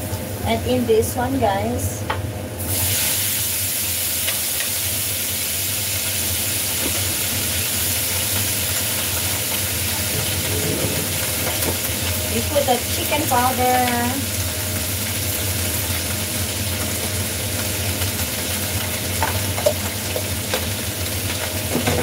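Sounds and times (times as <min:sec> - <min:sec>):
vegetables sizzling in hot oil: 0:02.6 - 0:22.0.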